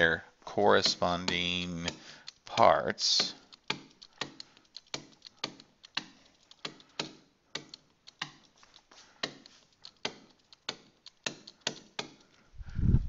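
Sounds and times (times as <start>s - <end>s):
stylus tapping on a tablet: 0.8s - 8.6s, 9.2s - 12.2s.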